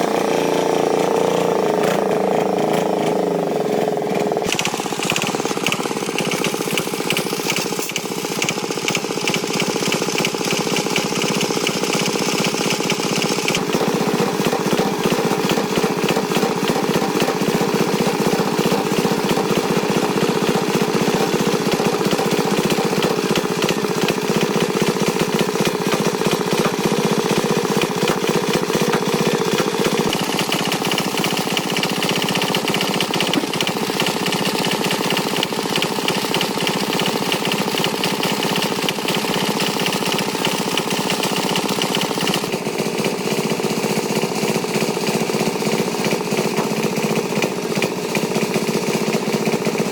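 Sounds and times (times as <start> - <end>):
tractor engine chugging: 0.0 - 49.9.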